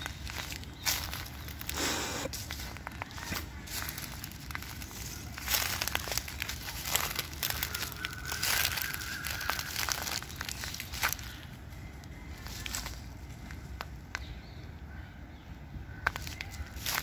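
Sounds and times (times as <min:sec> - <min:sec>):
dry leaves crunching underfoot: 0:00.0 - 0:14.5, 0:16.0 - 0:17.0.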